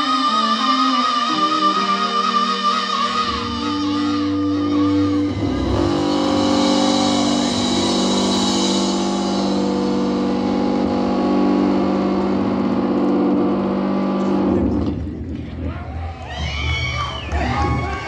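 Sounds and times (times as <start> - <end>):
distorted guitars sustained chord: 0.0 - 15.3.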